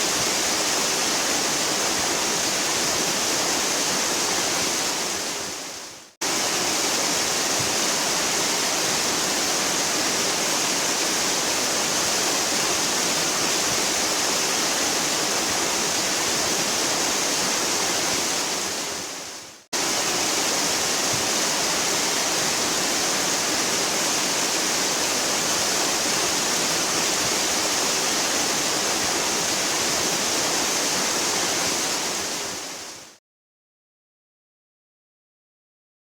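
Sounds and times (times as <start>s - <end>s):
waterfall rushing: 0.0s - 33.2s.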